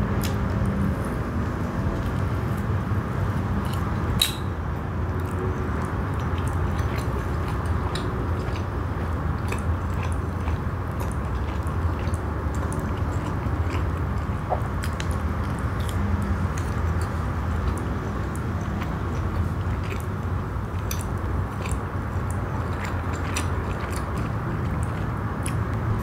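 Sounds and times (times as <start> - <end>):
wet chewing mouth clicks: 5.1 - 26.0.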